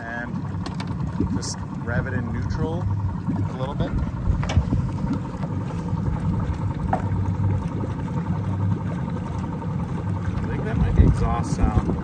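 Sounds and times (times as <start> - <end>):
boat engine running: 0.0 - 12.0
exhaust bubbling in water: 0.0 - 12.0.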